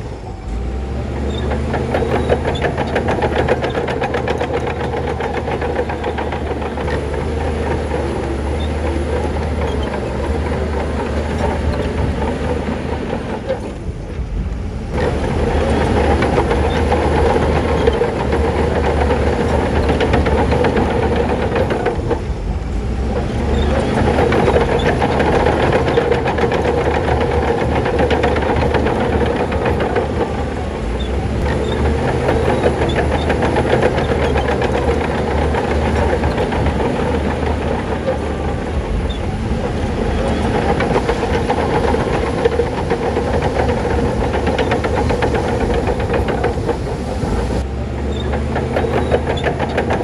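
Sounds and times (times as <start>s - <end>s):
bulldozer diesel engine running: 0.0s - 50.0s
steel tracks clattering: 0.0s - 50.0s.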